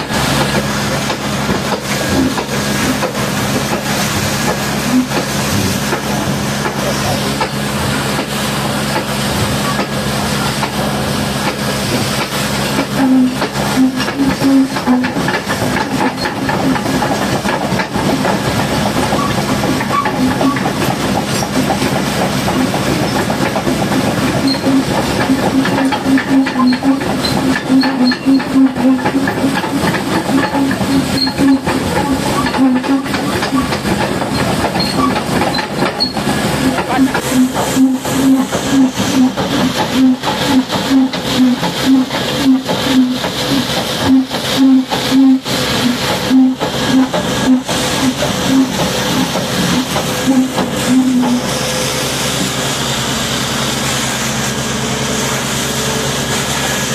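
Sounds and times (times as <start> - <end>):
water jet hissing: 0.0 - 56.9.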